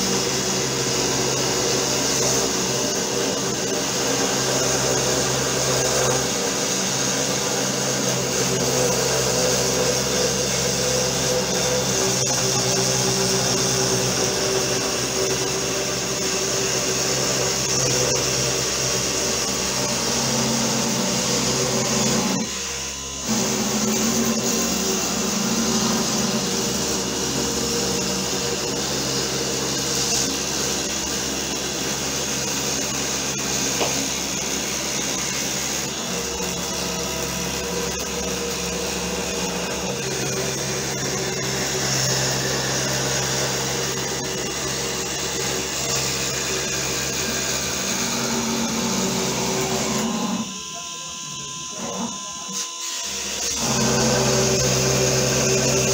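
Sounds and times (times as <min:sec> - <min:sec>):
router spindle milling plywood: 0:00.0 - 0:55.9.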